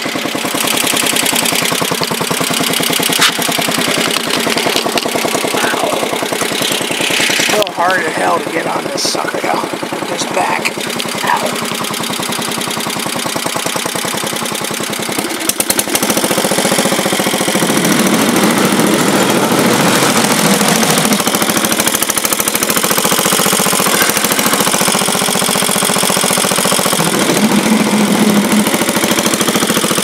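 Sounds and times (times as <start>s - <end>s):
garden tractor engine running: 0.0s - 30.0s.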